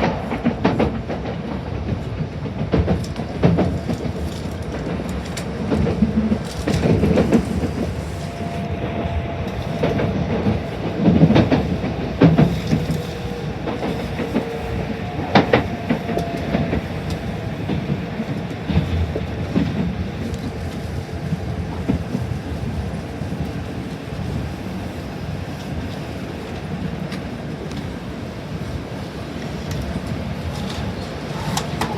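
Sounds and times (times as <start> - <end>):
train wheels clacking over joints: 0.0 - 24.6, 25.5 - 31.9.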